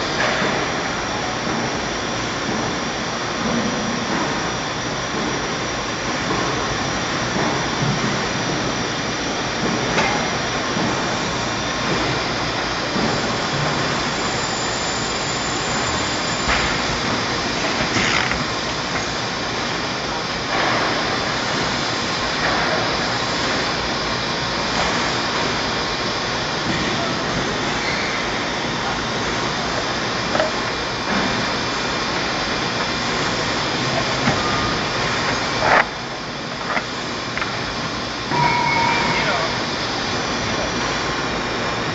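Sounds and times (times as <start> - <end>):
paper guillotine hiss and hum: 0.0 - 41.9.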